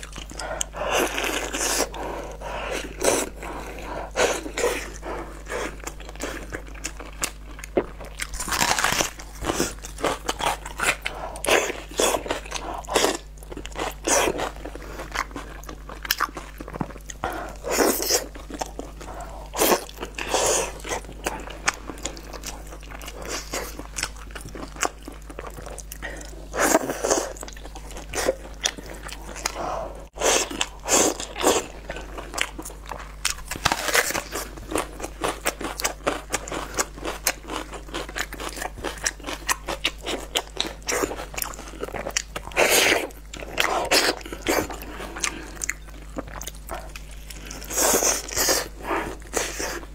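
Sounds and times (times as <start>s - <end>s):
person biting and chewing meat: 0.0s - 49.9s.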